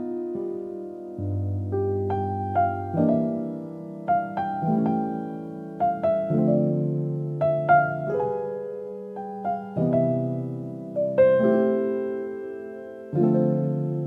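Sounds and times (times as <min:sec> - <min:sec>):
soft piano chords and melody: 0:00.0 - 0:14.0.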